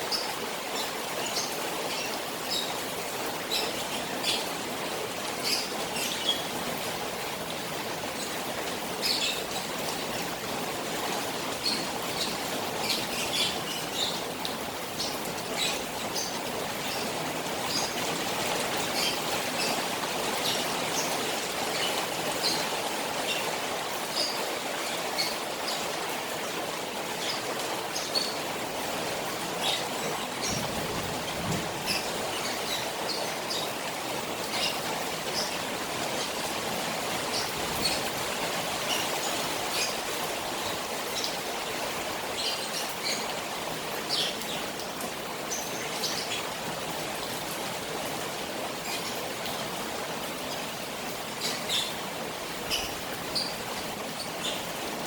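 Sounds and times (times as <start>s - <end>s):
rain falling on a pond: 0.0s - 55.0s.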